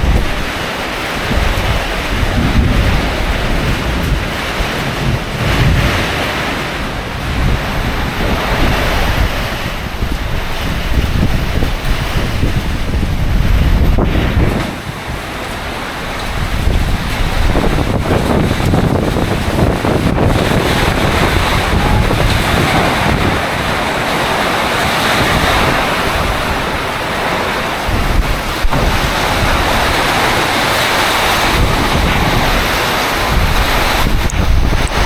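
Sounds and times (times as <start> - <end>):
heavy low rumble: 0.0 - 35.0
wind buffeting microphone: 0.0 - 35.0.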